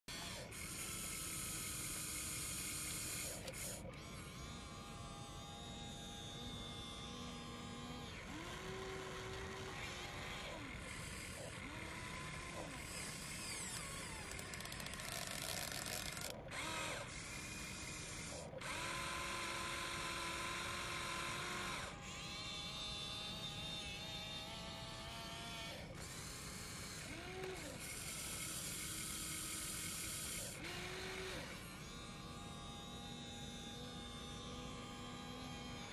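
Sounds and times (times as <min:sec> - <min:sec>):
electric motors whining: 0:00.0 - 0:35.9.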